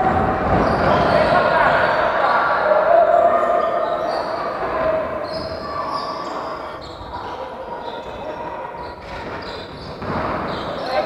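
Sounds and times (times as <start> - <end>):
players' voices echoing: 0.0 - 11.0.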